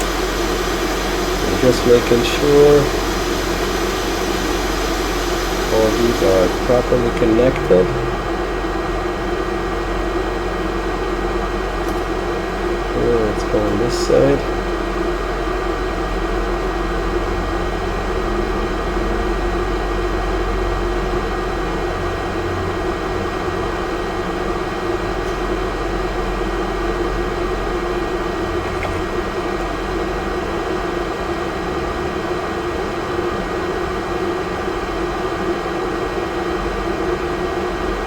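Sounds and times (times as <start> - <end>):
electric fan whirring: 0.0 - 38.0.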